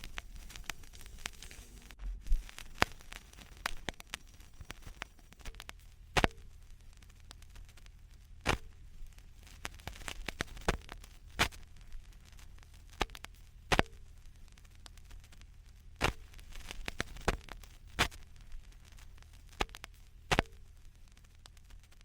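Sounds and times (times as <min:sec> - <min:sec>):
low steady rumble: 0:00.0 - 0:22.0
vinyl record clicks and pops: 0:00.0 - 0:22.0.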